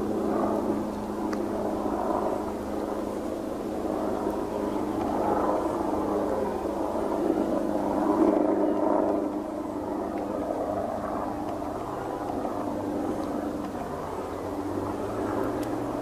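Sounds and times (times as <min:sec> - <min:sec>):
constant hum: 0:00.0 - 0:16.0
steady low drone: 0:00.0 - 0:16.0.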